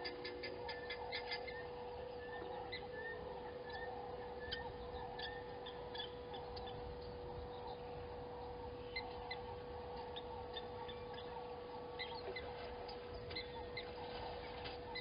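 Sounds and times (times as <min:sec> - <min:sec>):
bird chirps: 0:00.0 - 0:15.0
soft repeated bird call: 0:00.0 - 0:15.0
steady hum: 0:00.0 - 0:15.0.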